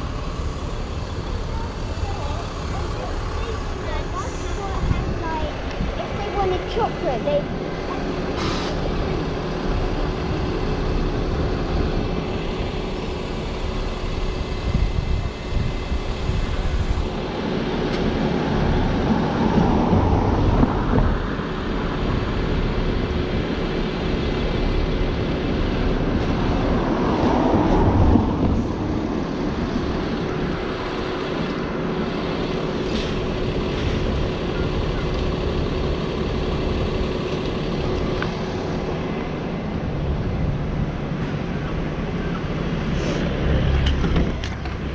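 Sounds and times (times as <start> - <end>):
passing cars and buses: 0.0 - 44.9.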